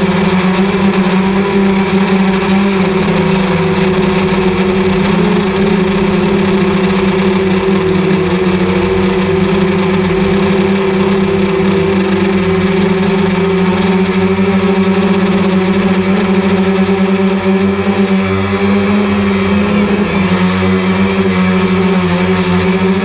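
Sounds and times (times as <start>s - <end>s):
drone propellers buzzing: 0.0s - 23.0s.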